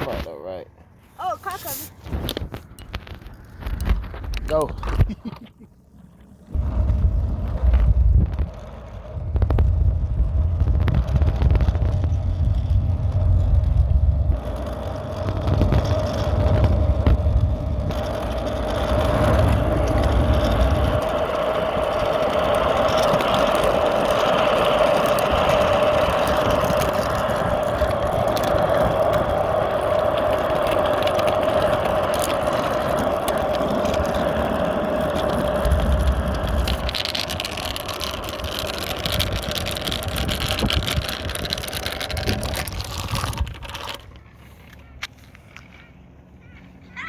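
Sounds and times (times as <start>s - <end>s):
wheels rolling: 0.0s - 47.0s
wind rumbling: 1.9s - 5.2s, 5.8s - 44.4s.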